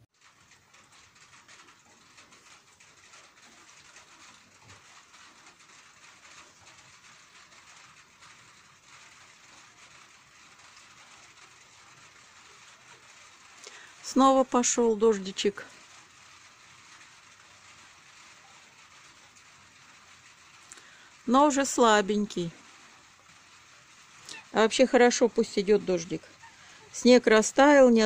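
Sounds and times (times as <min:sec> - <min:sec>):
light rain pattering: 0:00.0 - 0:28.0.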